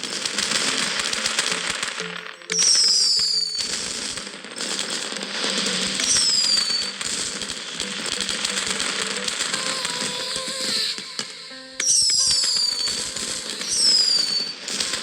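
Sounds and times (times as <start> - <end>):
fireworks crackling and popping: 0.0 - 15.0
whistles falling in pitch: 0.0 - 15.0.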